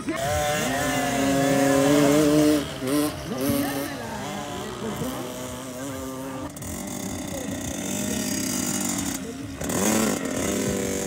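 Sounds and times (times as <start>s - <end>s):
small two-stroke engines running: 0.0s - 11.0s.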